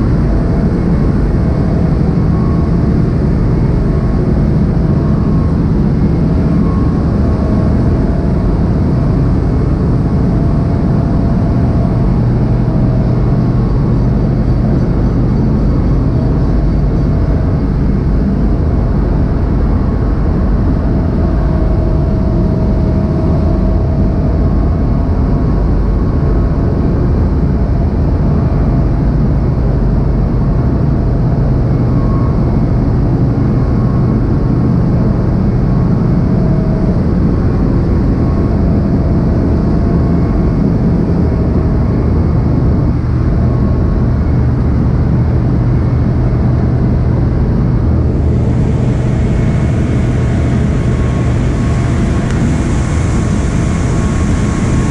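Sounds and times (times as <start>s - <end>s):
engine-room machinery drone: 0.0s - 54.9s.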